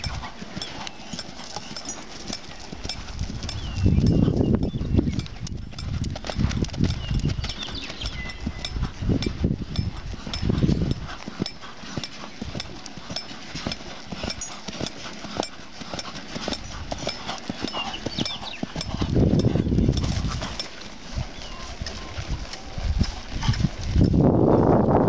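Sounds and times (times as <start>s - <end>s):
horse hooves on dirt: 0.0s - 25.0s.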